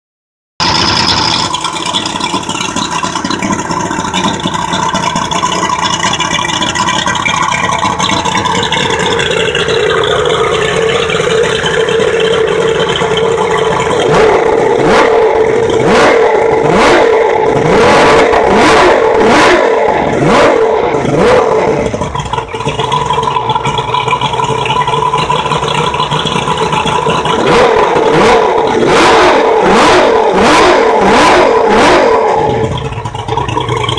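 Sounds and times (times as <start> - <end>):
outboard motor running and revving: 0.6 - 33.9.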